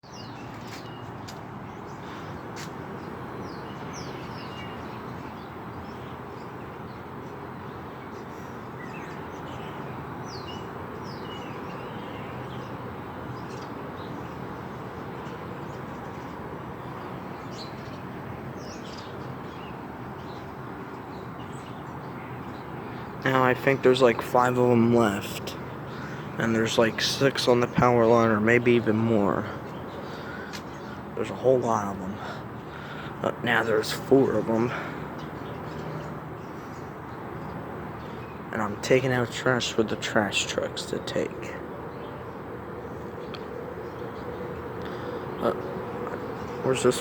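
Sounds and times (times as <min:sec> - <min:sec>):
flock of birds chirping: 0:00.0 - 0:47.0
steady background noise: 0:00.0 - 0:47.0.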